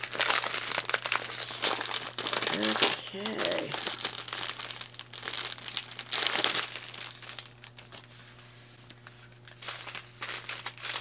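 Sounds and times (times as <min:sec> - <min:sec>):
plastic bags crinkling: 0:00.0 - 0:08.1, 0:08.9 - 0:11.0.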